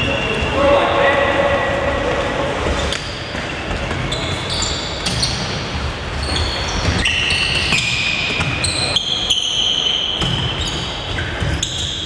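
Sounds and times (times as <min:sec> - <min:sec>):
echoing sports hall rumble: 0:00.0 - 0:12.0
shoes squeaking on court floor: 0:00.0 - 0:12.0.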